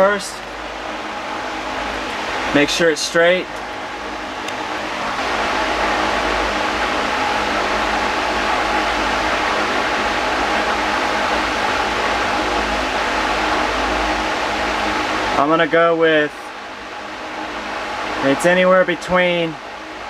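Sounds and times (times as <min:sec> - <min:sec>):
fan machine whirring: 0:00.0 - 0:20.0.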